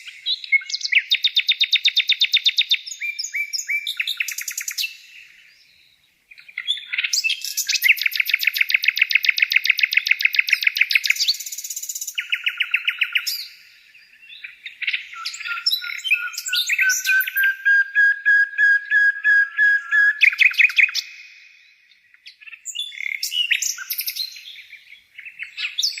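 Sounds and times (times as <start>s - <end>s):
songbirds trilling: 2.8s - 26.0s.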